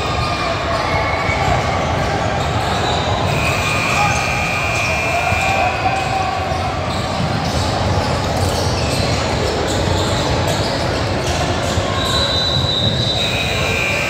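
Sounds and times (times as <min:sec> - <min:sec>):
crowd hum: 0:00.0 - 0:14.0
sneaker squeaks: 0:00.0 - 0:14.0.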